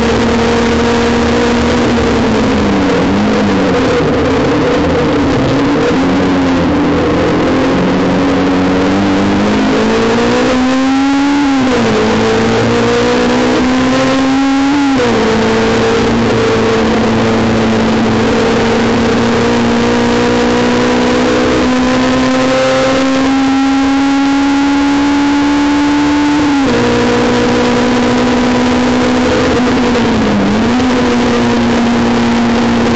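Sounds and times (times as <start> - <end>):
high-revving car engine: 0.0 - 32.9.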